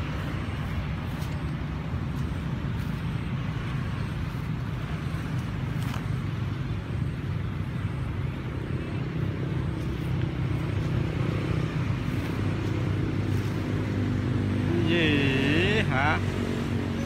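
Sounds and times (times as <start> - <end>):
outdoor noise: 0.0 - 17.0
vehicle engine rumble: 0.0 - 17.0.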